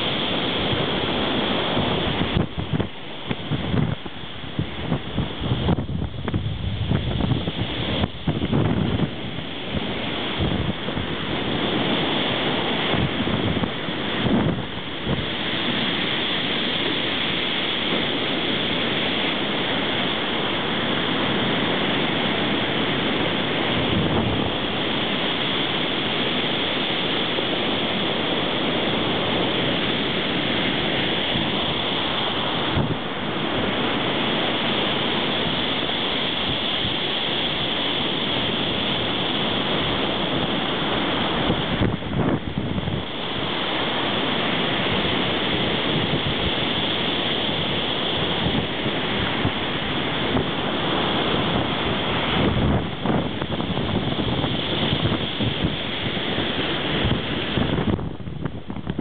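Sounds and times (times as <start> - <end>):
waves breaking: 0.0 - 59.0
wind buffeting microphone: 0.0 - 59.0.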